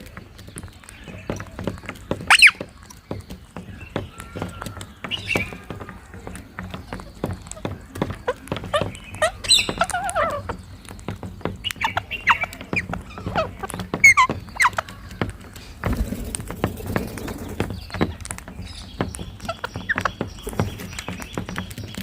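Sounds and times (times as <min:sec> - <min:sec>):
parakeets squawking and chattering: 0:00.0 - 0:22.0.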